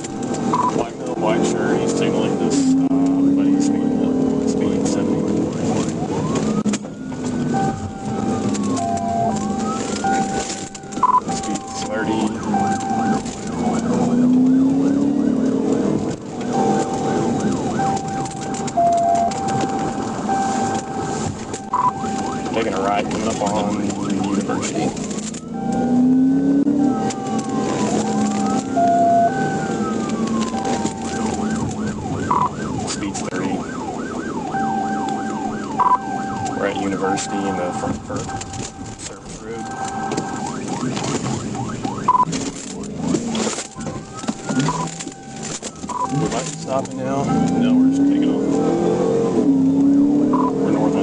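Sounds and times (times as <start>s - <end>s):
police siren wailing: 0.0s - 51.0s
vehicle engine and road noise: 0.0s - 51.0s.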